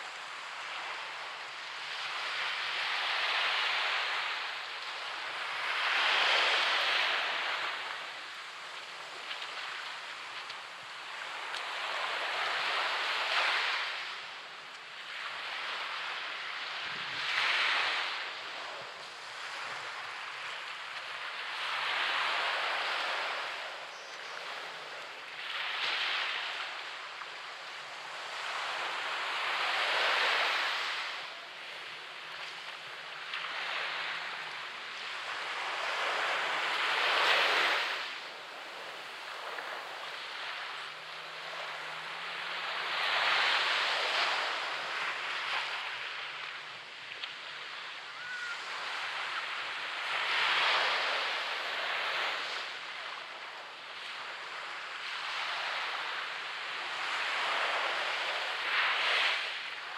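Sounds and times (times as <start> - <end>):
surf waves breaking on beach: 0.0 - 59.9.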